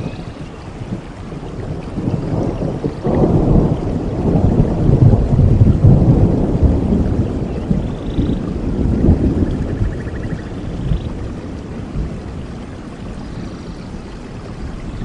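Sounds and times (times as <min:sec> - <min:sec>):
rolling thunder: 0:00.0 - 0:15.0
steady rain: 0:00.0 - 0:15.0.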